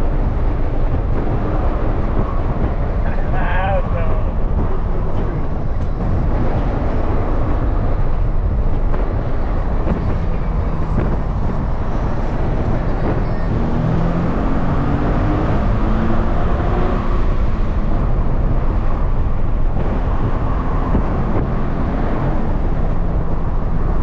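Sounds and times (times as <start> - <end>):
car engine revving: 0.0 - 24.0
road noise: 0.0 - 24.0
wind buffeting microphone: 0.0 - 24.0.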